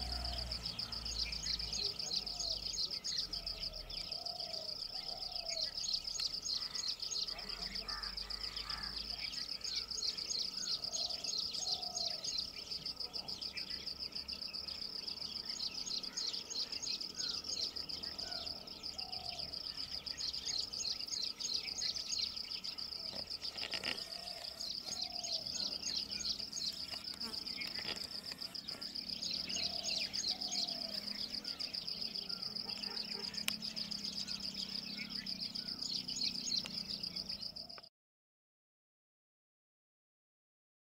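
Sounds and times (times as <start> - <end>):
high pulsing insect trill: 0.0 - 37.8
faint bird chirps: 0.0 - 37.9.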